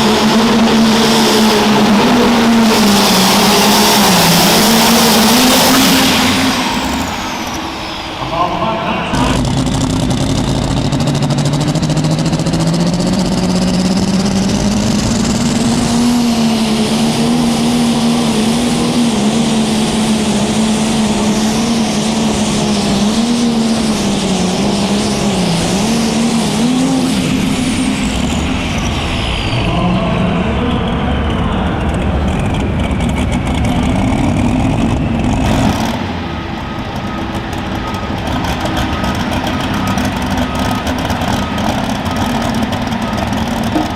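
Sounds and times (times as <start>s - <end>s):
high whine winding down: 0.0s - 43.9s
tractor diesel engine at full power: 0.0s - 43.9s.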